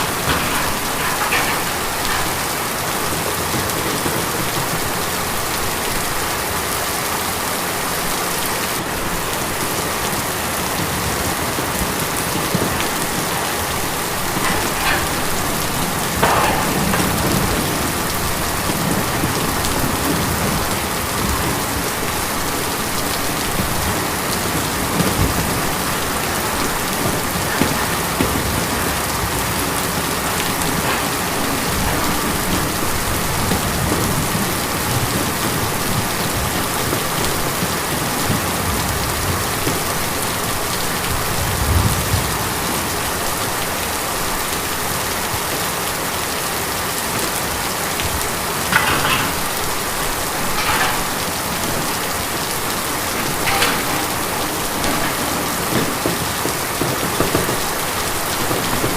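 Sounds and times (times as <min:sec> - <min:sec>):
water drips and splashes: 0:00.0 - 0:07.0, 0:07.6 - 0:42.4, 0:47.3 - 0:58.9
rain on a tin roof: 0:00.0 - 0:58.9.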